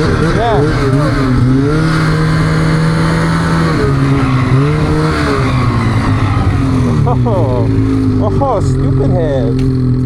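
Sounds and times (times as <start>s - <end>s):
rush of track and snow: 0.0s - 10.0s
snowmobile engine revving: 0.0s - 10.0s.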